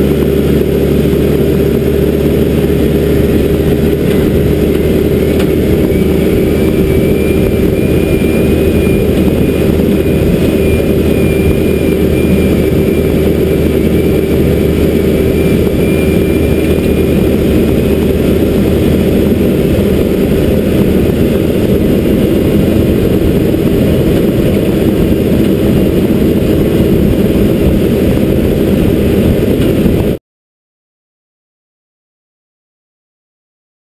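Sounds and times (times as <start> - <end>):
diesel engine under load: 0.0 - 30.2
faint high whine: 0.0 - 30.2.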